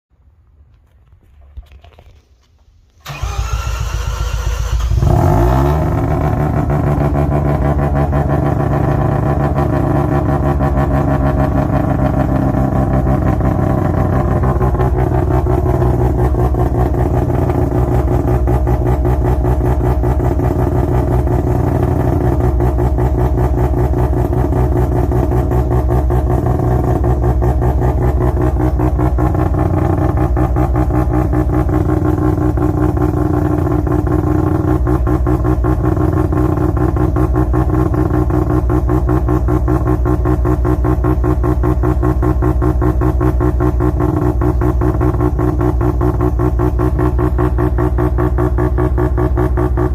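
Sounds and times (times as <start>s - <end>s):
rotary engine starting and idling: 0.8s - 49.9s.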